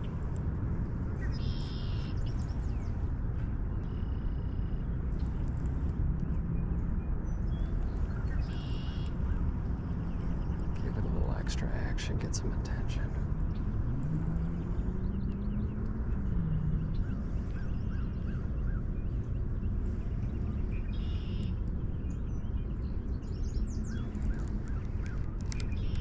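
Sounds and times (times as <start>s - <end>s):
low hum: 0.0s - 26.0s
low outdoor rumble: 0.0s - 26.0s.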